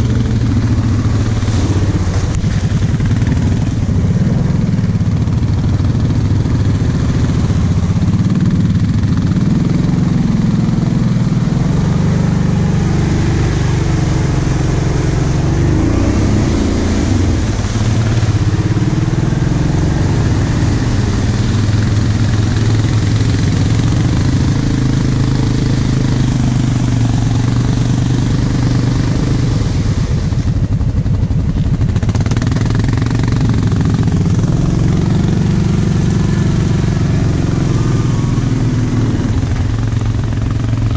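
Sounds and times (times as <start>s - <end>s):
quad engine revving: 0.0s - 40.9s
water splashing: 0.0s - 40.9s.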